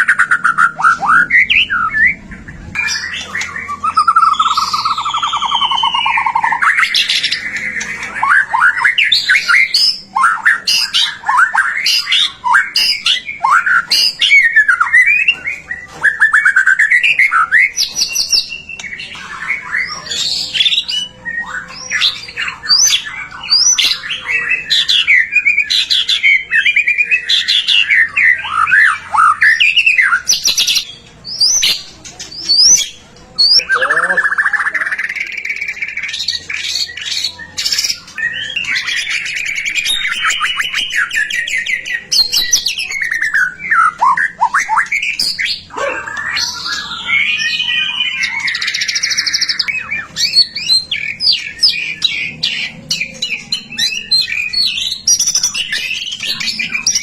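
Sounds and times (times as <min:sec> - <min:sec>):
bird singing whistled song: 0:00.0 - 0:31.8, 0:32.4 - 0:57.0.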